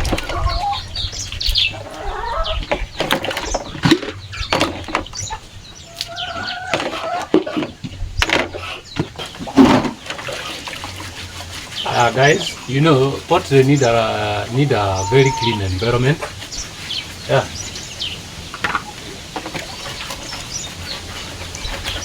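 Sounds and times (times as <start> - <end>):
hen and chicks clucking: 0.0 - 22.0.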